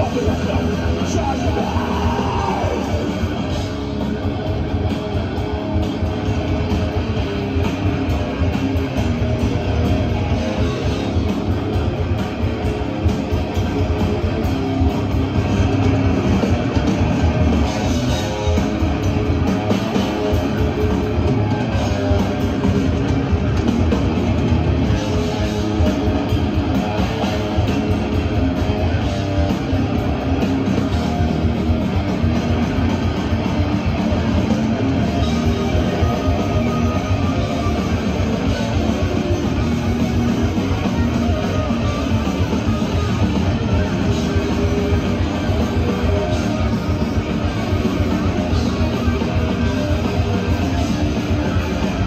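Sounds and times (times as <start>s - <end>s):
death metal band playing: 0.0s - 52.0s.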